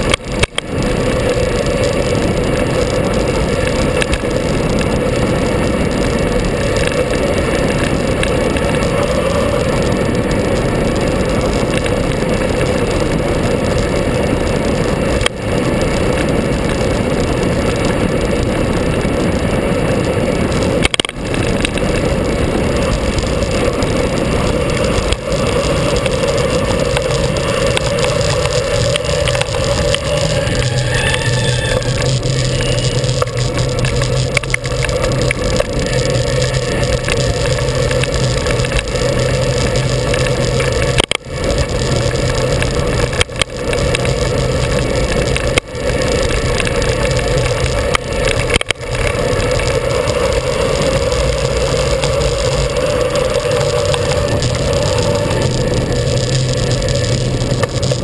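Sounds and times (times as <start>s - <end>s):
constant hum: 0.0s - 58.0s
road noise: 0.0s - 58.0s
wind rushing: 0.0s - 58.0s.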